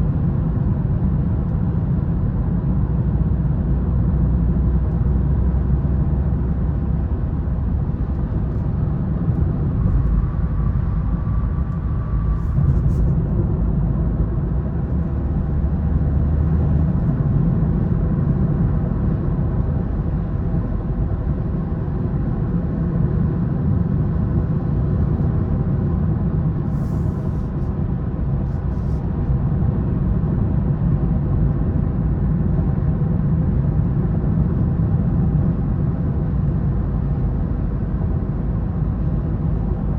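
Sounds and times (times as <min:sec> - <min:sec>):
car engine drone: 0:00.0 - 0:39.9
tyre road rumble: 0:00.0 - 0:39.9.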